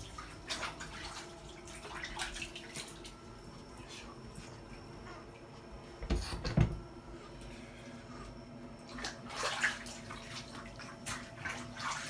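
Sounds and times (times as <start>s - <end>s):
water splashing in a bathtub: 0.0s - 12.0s.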